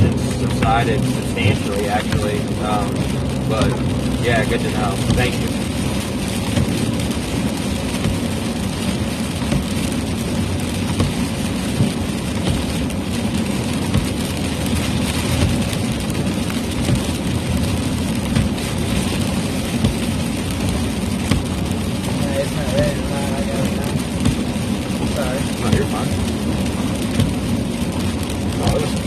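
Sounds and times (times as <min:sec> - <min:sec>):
heavy rain on a vehicle: 0:00.0 - 0:29.0
tyres and engine rumble: 0:00.0 - 0:29.0.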